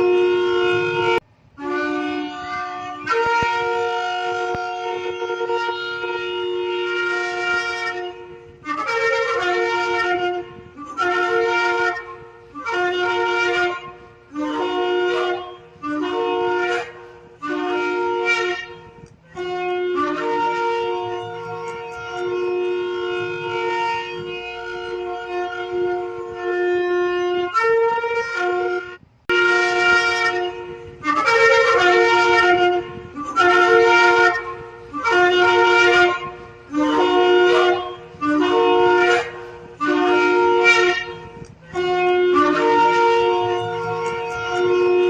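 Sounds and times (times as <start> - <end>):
shofar blasts: 0.0 - 45.0.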